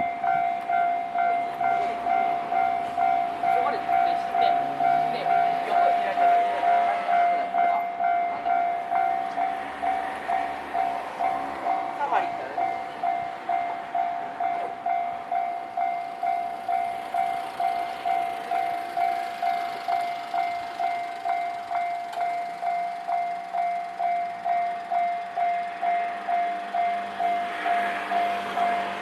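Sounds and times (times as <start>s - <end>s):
level-crossing bell clanging: 0.0s - 29.0s.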